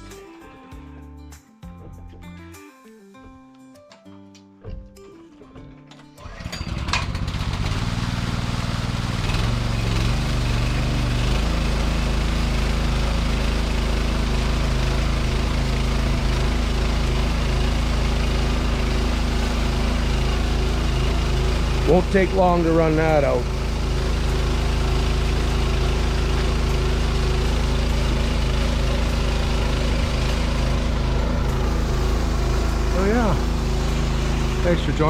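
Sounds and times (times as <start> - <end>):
small gasoline engine starting: 5.9 - 35.0.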